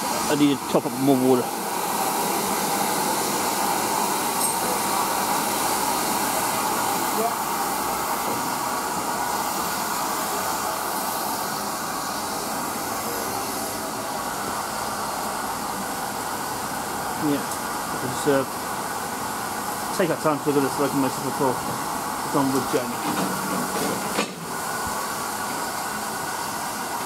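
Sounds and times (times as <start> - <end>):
steam hissing from locomotive: 0.0 - 27.0.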